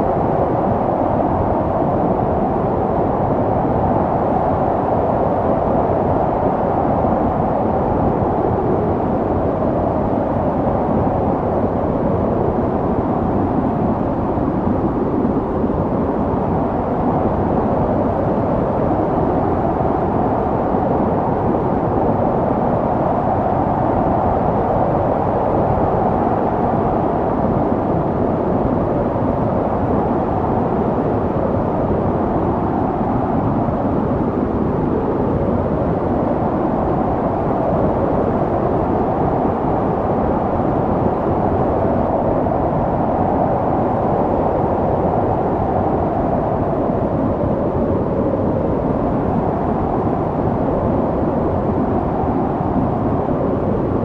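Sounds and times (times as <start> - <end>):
snowstorm wind blowing: 0.0 - 54.0.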